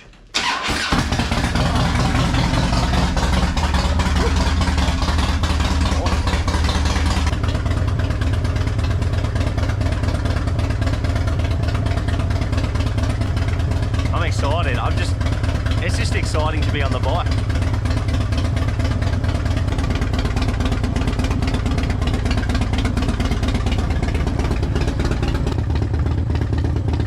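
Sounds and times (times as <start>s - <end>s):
motorcycle engine idling: 0.4s - 27.0s.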